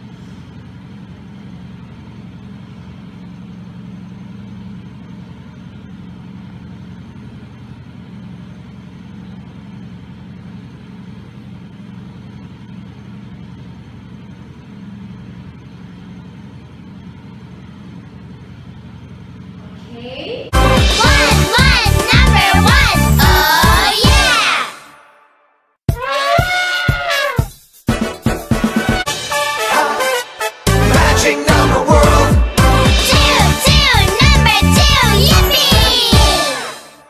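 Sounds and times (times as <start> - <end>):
low machine hum: 0.0 - 24.6, 30.7 - 37.0.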